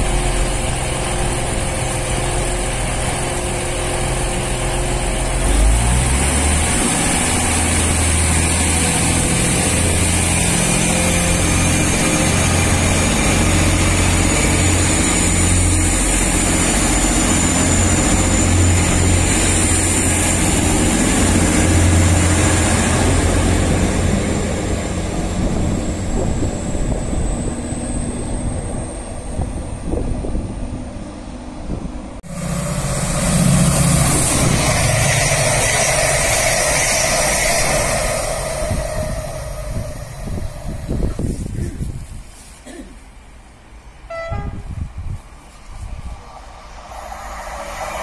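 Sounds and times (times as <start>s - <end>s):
high whine rising in pitch: 0.0s - 29.7s, 32.2s - 41.5s, 45.8s - 48.0s
diesel engine drone: 0.0s - 42.0s
train passing close by: 0.0s - 48.0s.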